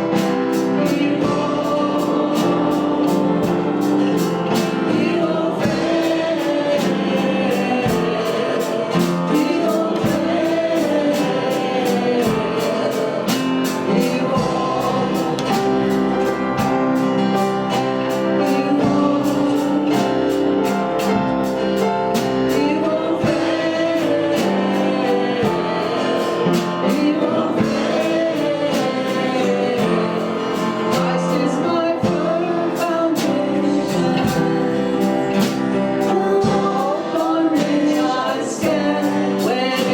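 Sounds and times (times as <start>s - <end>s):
congregation and band singing a hymn: 0.0s - 39.9s.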